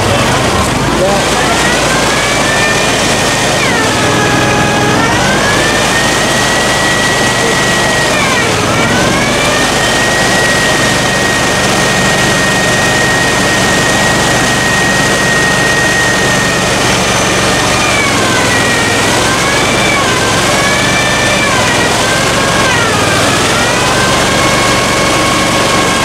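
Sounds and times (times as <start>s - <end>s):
engine whining under strain: 0.0s - 26.0s.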